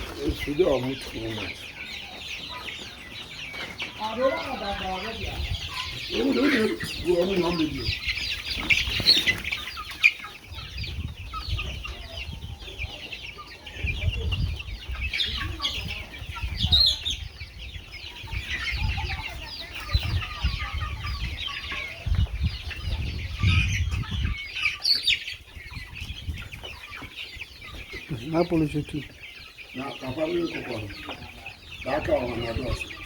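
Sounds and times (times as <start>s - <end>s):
chickens clucking and chirping: 0.0s - 33.0s.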